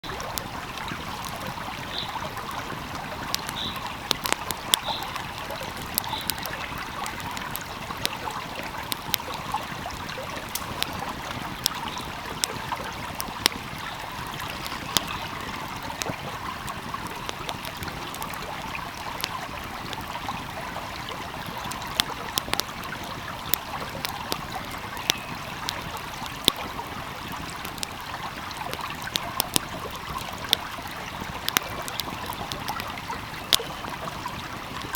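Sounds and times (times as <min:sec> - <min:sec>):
flowing stream: 0:00.0 - 0:34.9
wood fire crackling and popping: 0:00.0 - 0:34.9.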